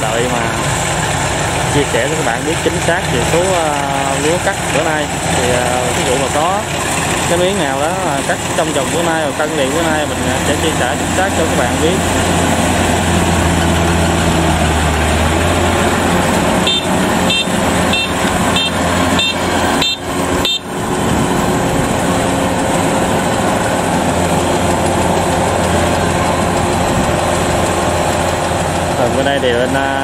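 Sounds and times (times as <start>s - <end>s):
combine harvester diesel engine: 0.0s - 30.0s.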